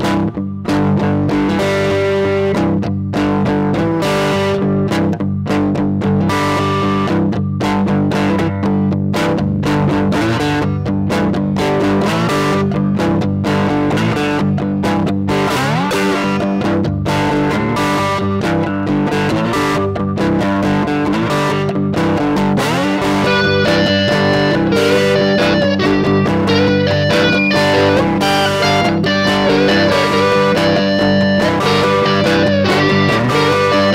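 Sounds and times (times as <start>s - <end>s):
electric guitar blues strumming: 0.0s - 33.9s
guitar slides: 0.0s - 33.9s.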